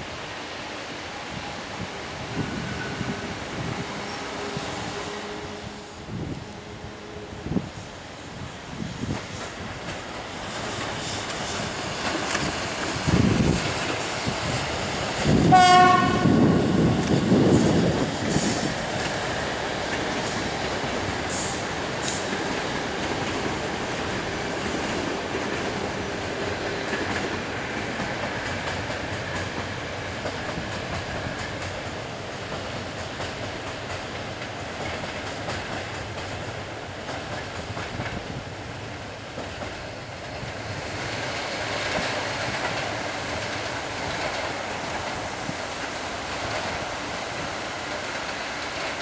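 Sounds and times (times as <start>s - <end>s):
train coaches rumbling on track: 0.0s - 49.0s.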